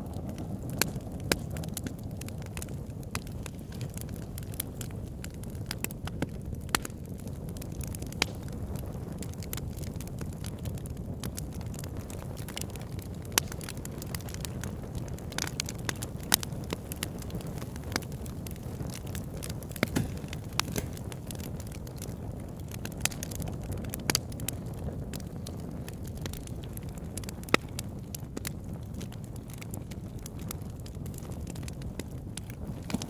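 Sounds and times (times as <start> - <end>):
fire crackling and popping: 0.0 - 33.0
low fire rumble: 0.0 - 33.0.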